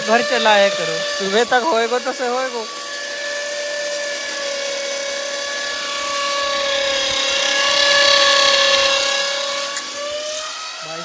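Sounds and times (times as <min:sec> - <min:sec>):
electric drill whining into steel: 0:00.0 - 0:11.0.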